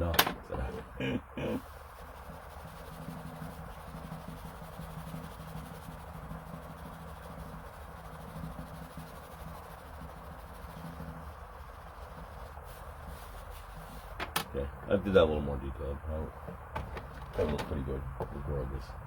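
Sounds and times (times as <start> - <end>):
faint low hum: 0.0 - 19.0
steady background hiss: 0.0 - 19.0.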